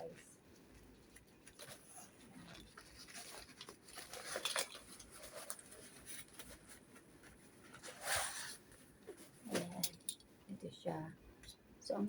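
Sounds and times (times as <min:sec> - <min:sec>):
small clicks and rustles: 0:00.1 - 0:10.3.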